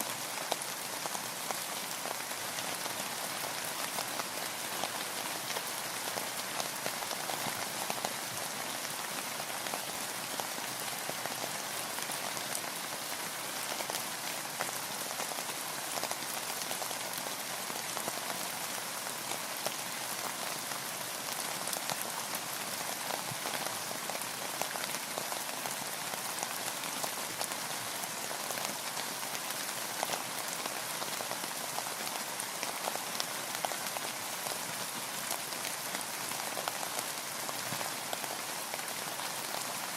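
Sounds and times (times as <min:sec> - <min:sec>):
rain pattering on a boat: 0:00.0 - 0:39.9.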